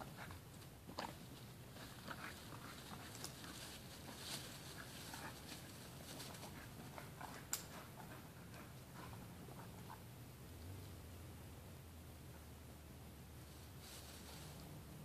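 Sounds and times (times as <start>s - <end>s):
small rustles and ticks: 0.0s - 11.0s, 13.4s - 14.9s.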